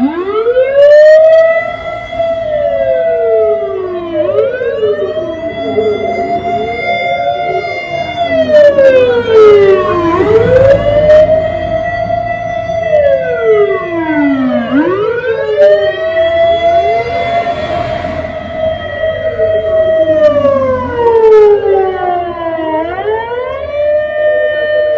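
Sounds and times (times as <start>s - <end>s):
fire engine siren wails: 0.0s - 24.9s.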